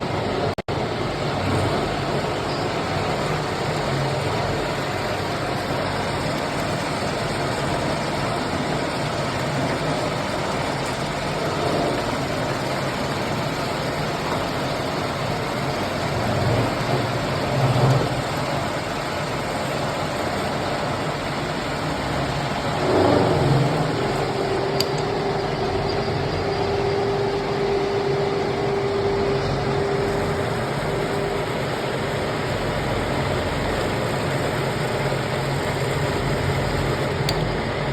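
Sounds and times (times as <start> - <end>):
lathe running: 0.1 - 37.9.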